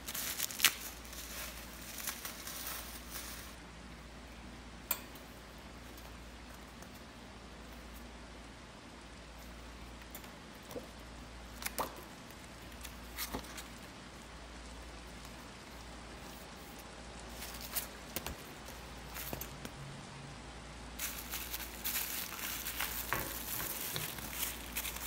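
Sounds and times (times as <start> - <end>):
quiet steady hum: 0.0 - 25.0.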